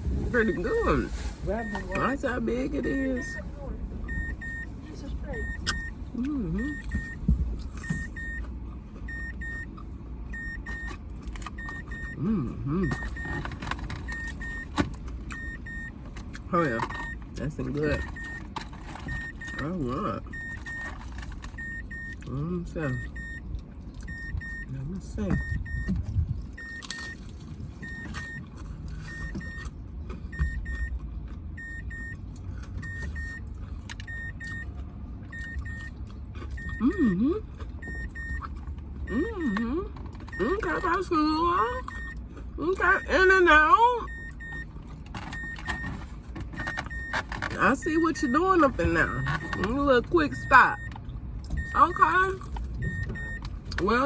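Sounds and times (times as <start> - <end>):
low car hum: 0.0 - 54.0
steady low rumble: 0.0 - 54.0
car warning chime beeping: 0.1 - 54.0.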